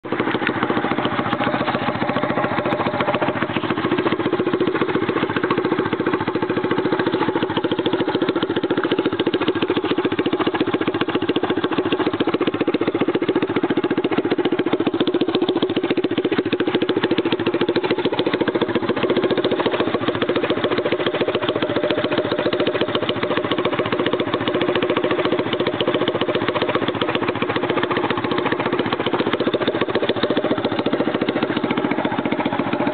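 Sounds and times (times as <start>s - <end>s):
small engine idling: 0.0s - 32.9s.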